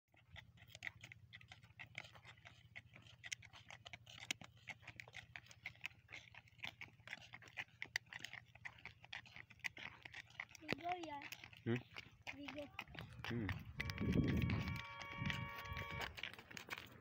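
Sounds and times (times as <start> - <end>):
donkey hooves clicking: 0.1 - 17.0
footsteps on road: 0.2 - 17.0.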